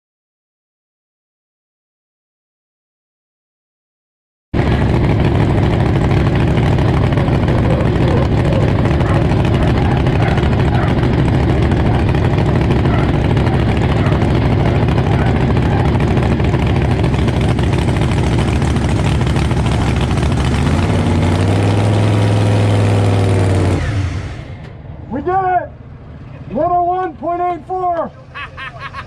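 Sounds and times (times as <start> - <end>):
truck engine running: 4.6 - 29.0.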